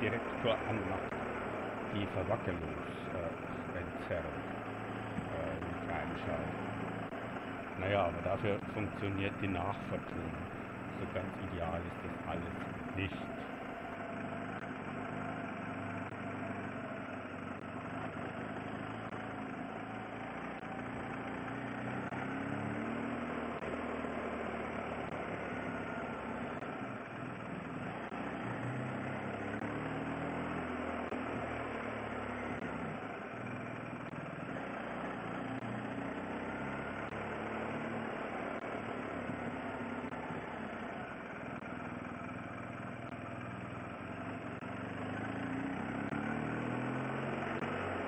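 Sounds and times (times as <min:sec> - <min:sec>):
motorcycle engine running: 0:00.0 - 0:48.0
road noise: 0:00.0 - 0:48.0.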